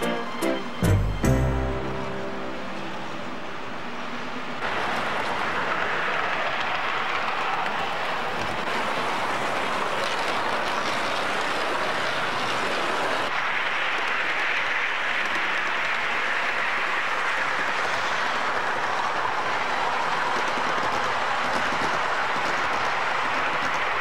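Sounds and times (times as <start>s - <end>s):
model trains whirring on track: 2.6s - 24.0s.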